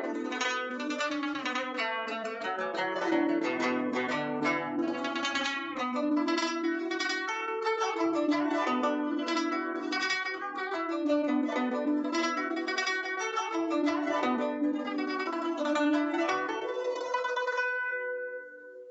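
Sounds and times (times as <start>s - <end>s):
guzheng plucked notes: 0.0s - 18.9s.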